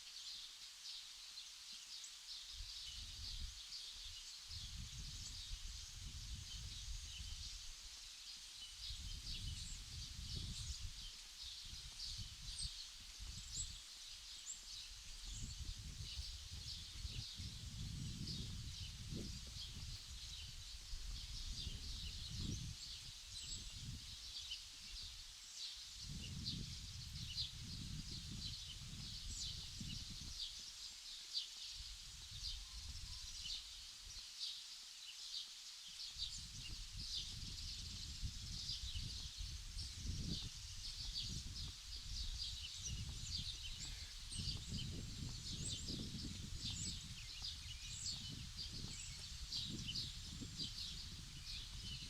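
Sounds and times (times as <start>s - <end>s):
small birds chirping: 0.0s - 52.0s
wind rumble on microphone: 2.6s - 3.6s, 4.5s - 7.9s, 8.8s - 13.8s, 14.7s - 25.2s, 26.0s - 30.6s, 31.8s - 34.2s, 36.2s - 52.0s.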